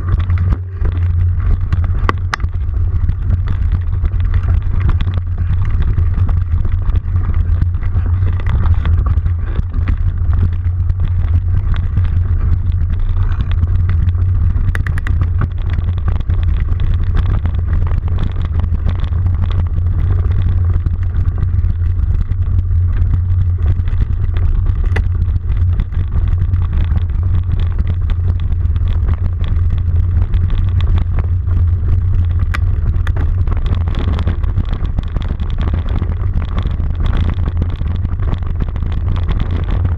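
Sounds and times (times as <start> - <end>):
low rumble of riding on dirt: 0.0 - 39.9.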